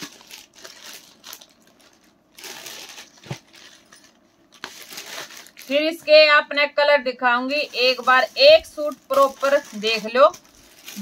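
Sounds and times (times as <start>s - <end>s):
fabric and packing sheet rustling: 0.0s - 6.2s, 7.4s - 11.0s.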